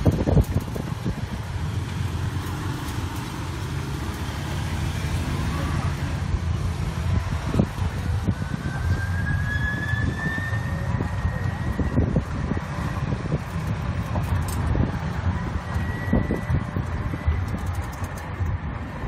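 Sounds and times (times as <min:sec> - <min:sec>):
wind and road noise rumble: 0:00.0 - 0:19.0.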